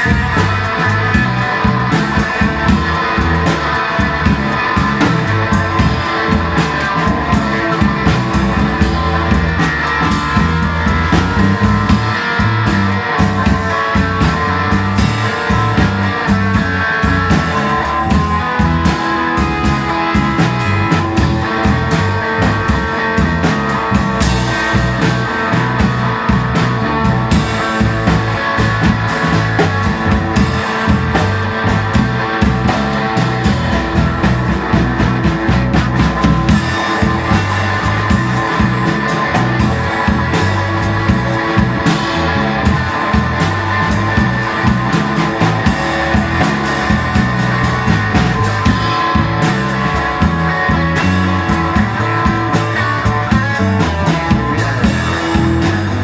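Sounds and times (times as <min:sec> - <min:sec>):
drum kit steady beat: 0:00.0 - 0:56.0
electric guitar playing blues: 0:00.0 - 0:56.0.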